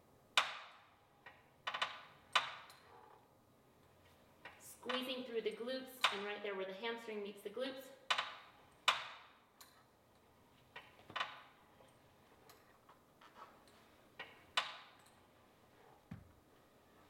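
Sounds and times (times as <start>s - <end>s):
faint clicks and knocks of exercise machine: 0.3s - 6.4s, 8.0s - 17.0s.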